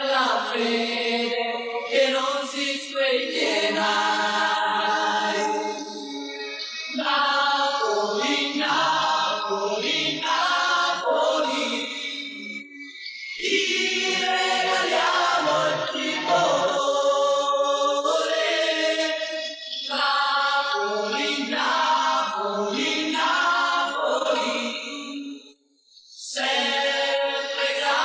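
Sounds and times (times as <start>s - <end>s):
choir singing held notes: 0.0s - 25.4s, 26.2s - 28.0s.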